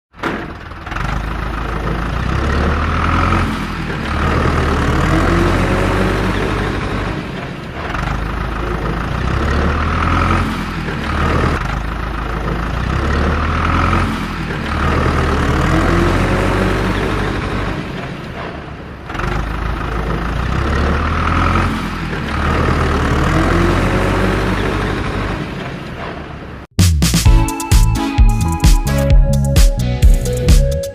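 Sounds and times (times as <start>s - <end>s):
diesel engine revving: 0.2s - 26.7s.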